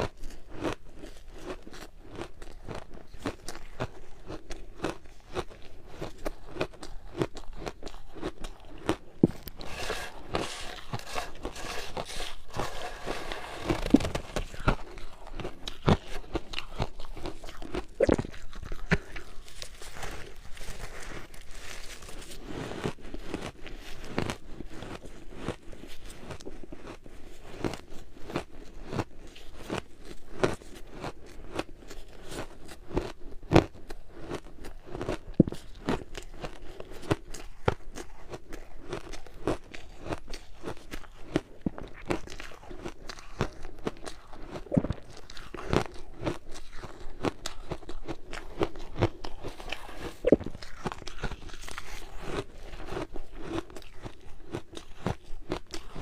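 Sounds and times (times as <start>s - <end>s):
ice crunching while chewed: 0.0s - 56.0s.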